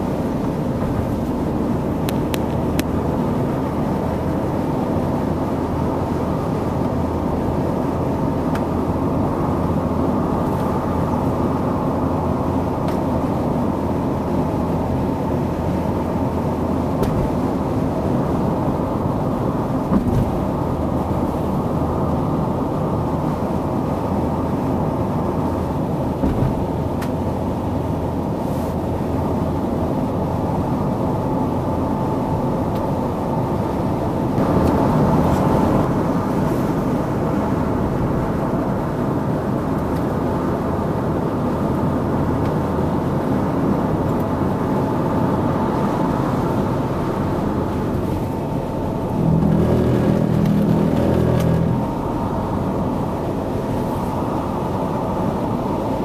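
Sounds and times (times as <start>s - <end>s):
car engine and tyre noise: 0.0s - 56.0s.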